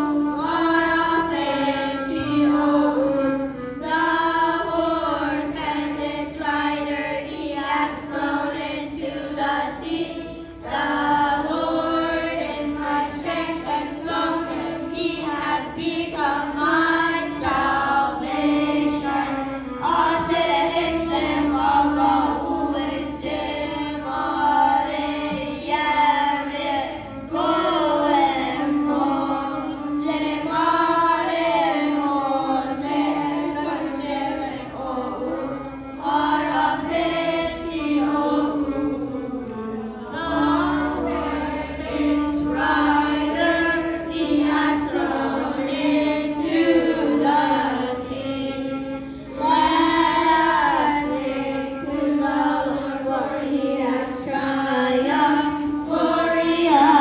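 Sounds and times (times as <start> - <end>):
children's choir singing a hymn: 0.0 - 57.0
sustained low accompaniment note: 0.0 - 57.0.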